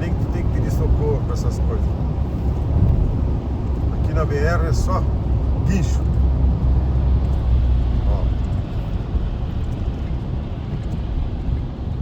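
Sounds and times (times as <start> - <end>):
car cabin engine and tyre rumble: 0.0 - 12.0.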